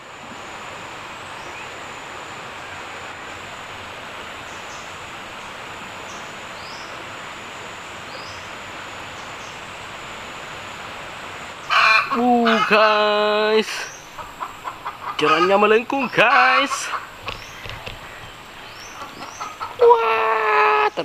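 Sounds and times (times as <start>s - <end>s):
rushing hiss: 0.0s - 21.0s.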